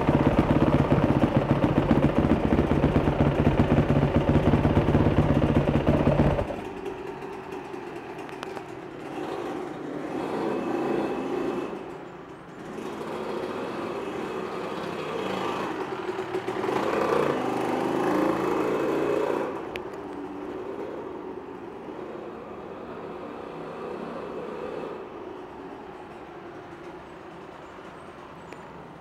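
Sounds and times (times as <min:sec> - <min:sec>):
dirt bike engine: 0:00.0 - 0:29.0.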